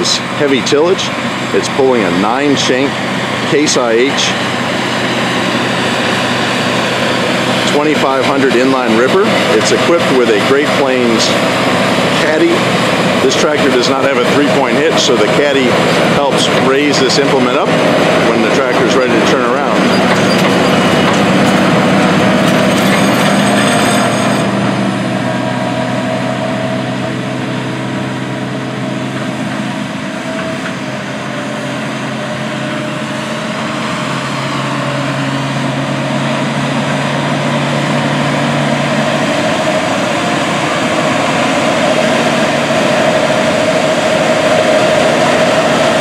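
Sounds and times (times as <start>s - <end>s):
track and tillage noise: 0.0s - 46.0s
tractor diesel engine working hard: 0.0s - 46.0s.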